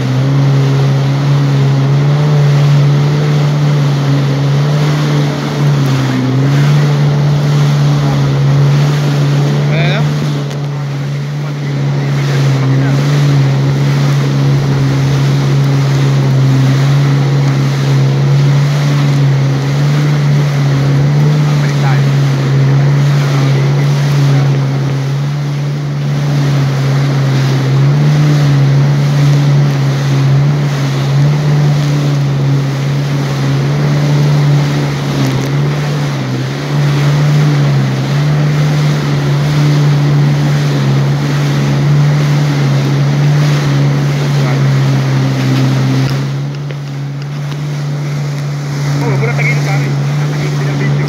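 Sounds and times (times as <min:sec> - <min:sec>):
jet ski engine droning: 0:00.0 - 0:51.0
rush of wind and spray: 0:00.0 - 0:51.0.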